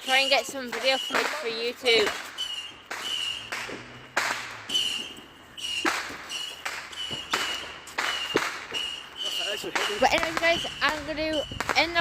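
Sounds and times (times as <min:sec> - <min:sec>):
distant firework bangs: 0:00.0 - 0:12.0
high whistling tone: 0:00.0 - 0:12.0.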